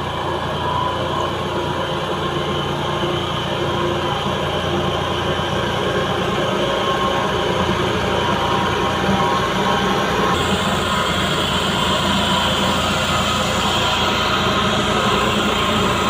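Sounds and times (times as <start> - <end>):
vibratory roller machine droning: 0.0 - 16.0.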